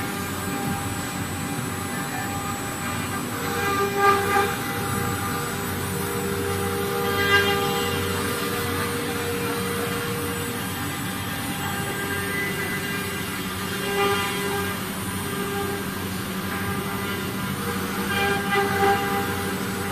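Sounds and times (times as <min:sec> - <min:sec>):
router spindle whine: 0:00.0 - 0:19.9
bit carving wood: 0:00.1 - 0:19.9.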